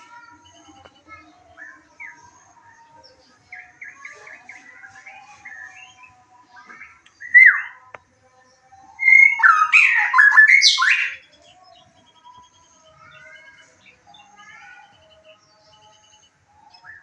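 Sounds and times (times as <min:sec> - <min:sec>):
faint chirping of other birds: 0:00.0 - 0:17.0
songbird whistling and twittering: 0:00.0 - 0:17.0.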